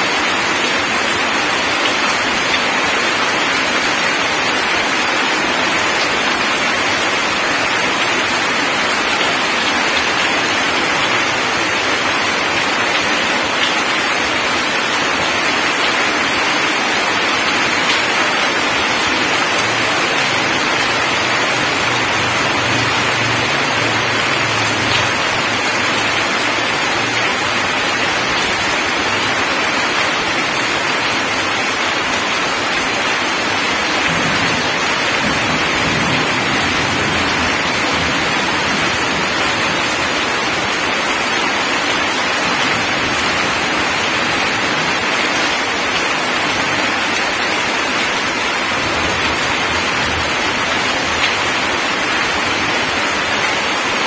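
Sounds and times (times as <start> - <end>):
heavy rain on gravel and puddles: 0.0 - 54.0.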